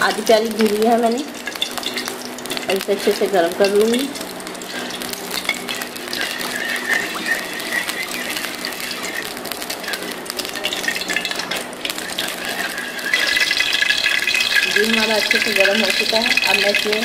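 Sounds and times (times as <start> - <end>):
steady low hum: 0.0 - 17.0
metal ladle scraping pan: 1.4 - 17.0.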